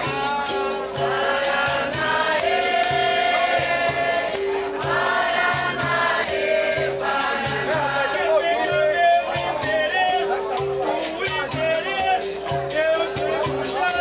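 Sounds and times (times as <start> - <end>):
group singing long notes: 0.0 - 14.0
hand drum: 0.0 - 14.0.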